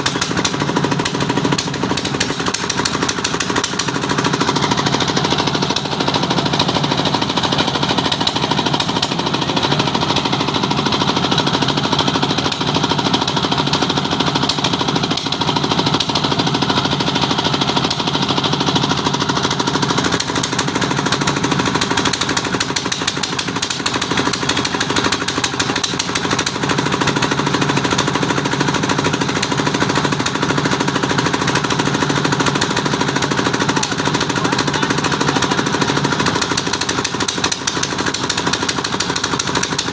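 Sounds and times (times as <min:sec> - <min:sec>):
machinery rattling clatter: 0:00.0 - 0:39.9
steady machinery hum: 0:00.0 - 0:39.9.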